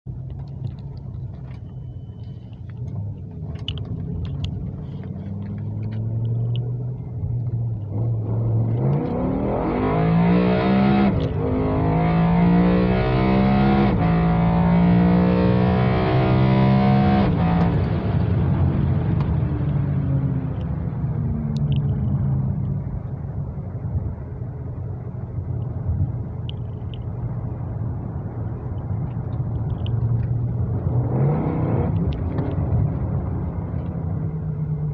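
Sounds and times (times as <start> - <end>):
car engine accelerating with upshifts: 0.1 - 34.9.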